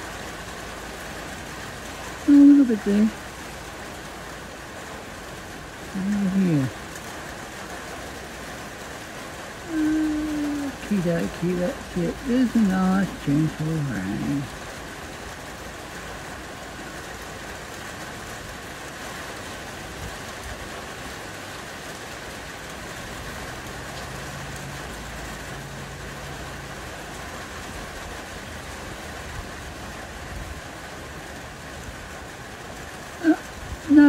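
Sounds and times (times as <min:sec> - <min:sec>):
gentle rain falling: 0:00.0 - 0:34.0.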